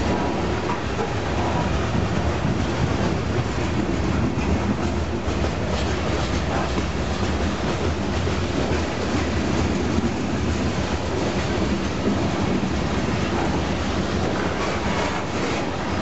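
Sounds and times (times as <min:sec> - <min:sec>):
freight train wheels rolling on rails: 0:00.0 - 0:16.0.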